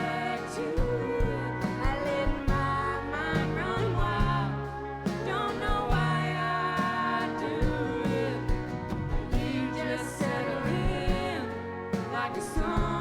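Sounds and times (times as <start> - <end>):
live rock band playing: 0.0 - 13.0
woman singing: 0.0 - 13.0.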